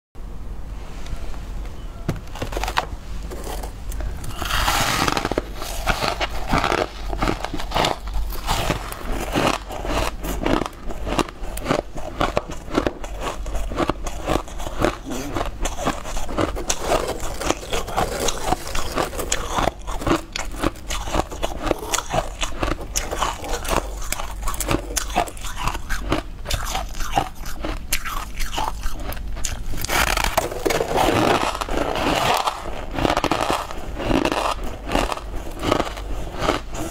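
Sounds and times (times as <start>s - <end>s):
crisp crunching: 2.3s - 36.9s.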